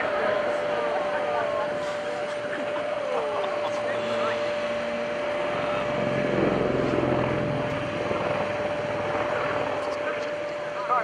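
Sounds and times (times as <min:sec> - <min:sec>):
helicopter rotor and engine noise: 0:00.0 - 0:11.0
helicopter whine: 0:00.0 - 0:11.0.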